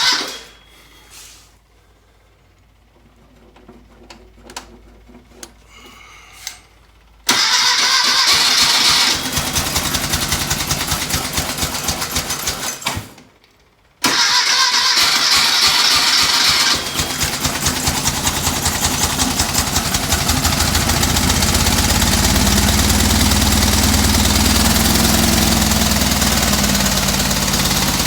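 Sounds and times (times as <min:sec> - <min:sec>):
air-cooled engine running: 0:03.7 - 0:13.2, 0:14.0 - 0:28.0.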